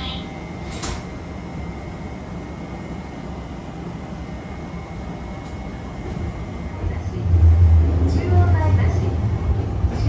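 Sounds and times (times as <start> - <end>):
electric train running rumble: 0.0 - 10.0.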